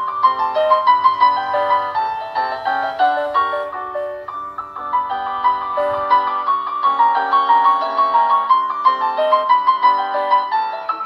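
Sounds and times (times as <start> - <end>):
piano music with quick notes: 0.0 - 11.0.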